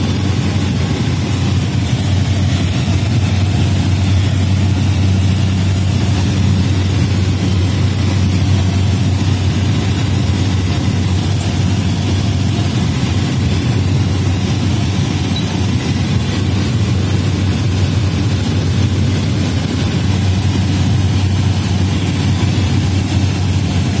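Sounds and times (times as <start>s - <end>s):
propeller aircraft engine drone: 0.0s - 24.0s.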